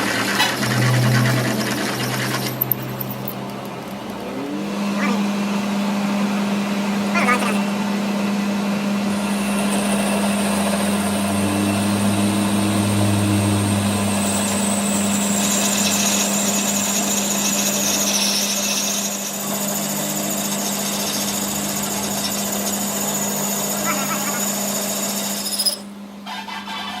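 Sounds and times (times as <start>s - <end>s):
power machine humming and whining: 0.0s - 26.2s.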